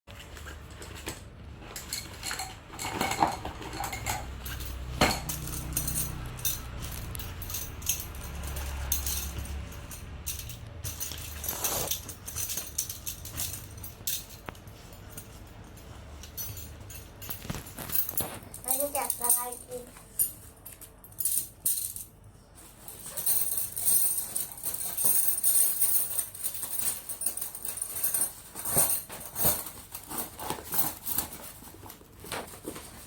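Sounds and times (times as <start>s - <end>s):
clicks and clinks of handling: 0.1s - 33.0s
steady low hum: 0.2s - 33.0s.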